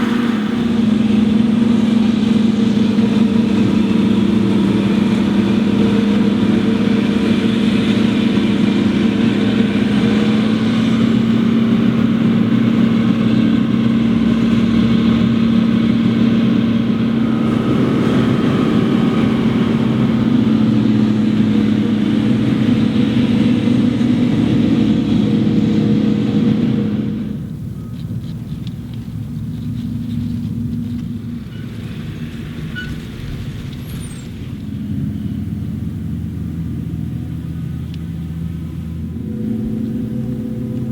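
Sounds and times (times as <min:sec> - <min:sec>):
diesel farm machinery droning: 0:00.0 - 0:40.9.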